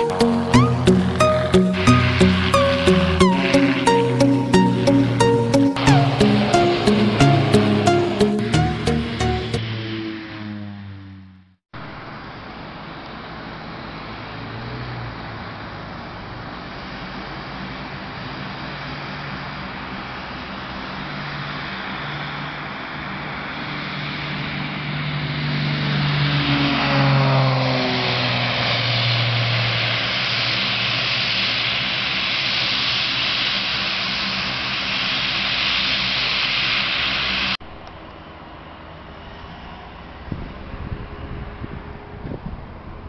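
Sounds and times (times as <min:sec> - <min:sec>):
propeller plane flying past: 0:00.0 - 0:43.0.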